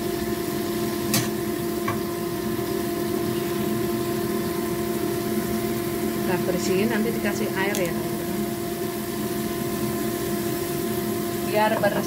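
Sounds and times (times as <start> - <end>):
range hood fan humming: 0.0 - 12.0.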